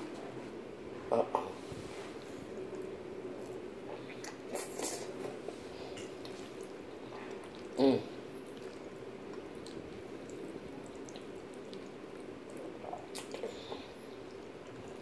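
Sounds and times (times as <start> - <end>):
low room hum: 0.0 - 15.0
person chewing pasta: 1.5 - 15.0.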